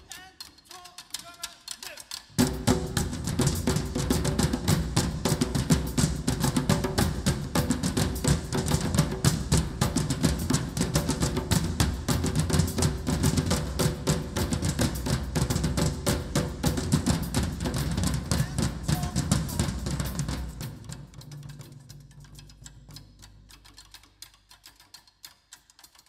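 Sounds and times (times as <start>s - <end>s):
percussion ensemble drumming: 0.0s - 24.0s.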